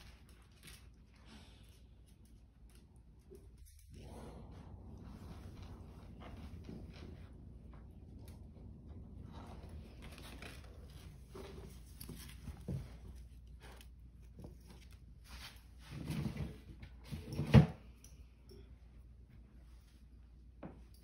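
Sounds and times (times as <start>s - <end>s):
paws scrabbling on tile floor: 0.0s - 17.2s.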